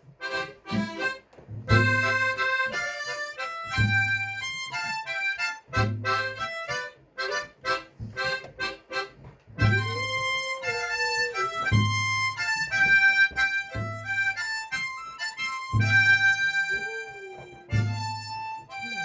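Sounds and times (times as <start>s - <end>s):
backing accompaniment: 0.0s - 19.0s
low beat: 0.0s - 19.0s
harmonica playing a melody: 0.2s - 19.0s.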